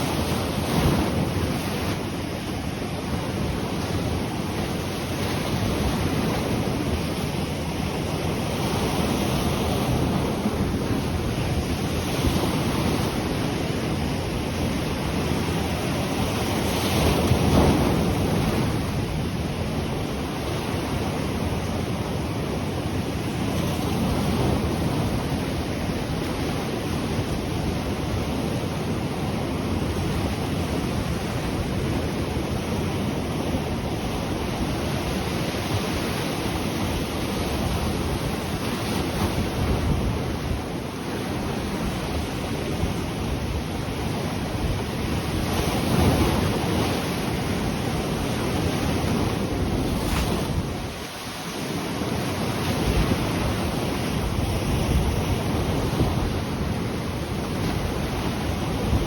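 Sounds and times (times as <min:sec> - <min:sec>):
sea surf breaking on shore: 0:00.0 - 0:59.0.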